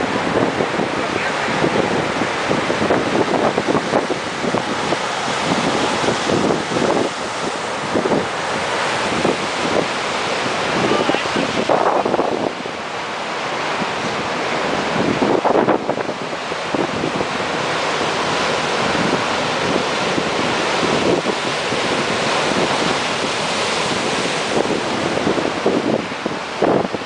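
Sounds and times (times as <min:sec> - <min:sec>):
storm surf breaking on rocks: 0:00.0 - 0:27.0
wind gusting on microphone: 0:00.0 - 0:27.0.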